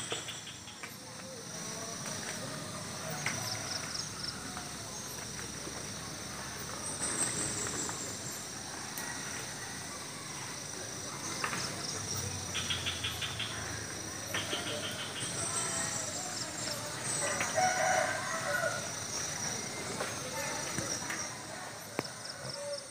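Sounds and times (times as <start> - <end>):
crickets trilling: 0.0 - 22.9.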